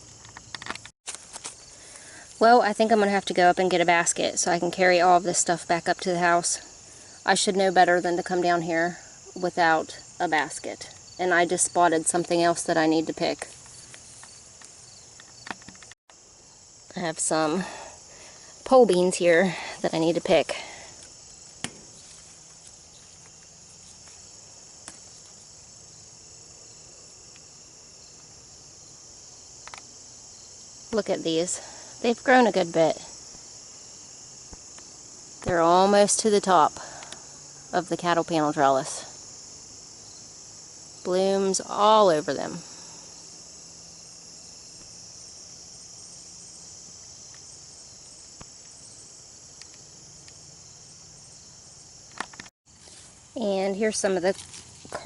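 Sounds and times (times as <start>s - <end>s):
crickets chirping: 0.0s - 55.0s
high-pitched insect chorus: 0.0s - 55.0s.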